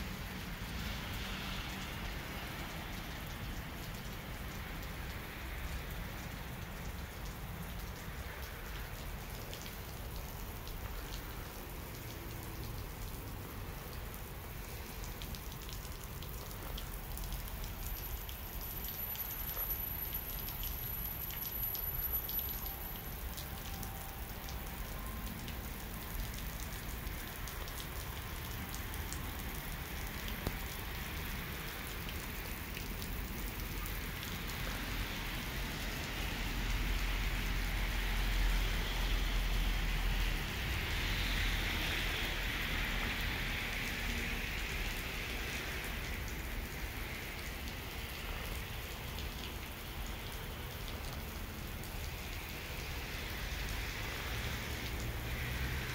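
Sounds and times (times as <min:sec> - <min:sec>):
water spattering on wet pavement: 0:00.0 - 0:55.9.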